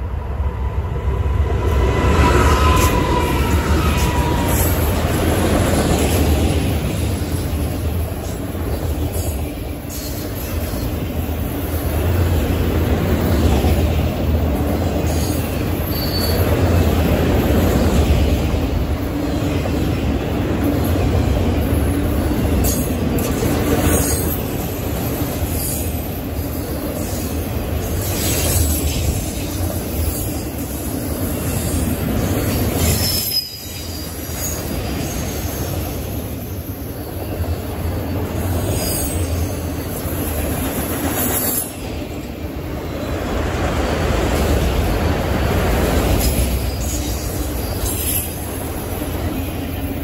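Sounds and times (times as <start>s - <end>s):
freight cars rumbling on rails: 0.0s - 50.0s.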